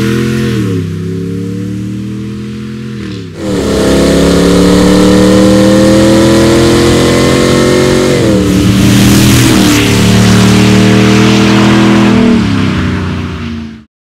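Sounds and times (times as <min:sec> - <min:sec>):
engine exhaust accelerating hard: 0:00.0 - 0:13.9.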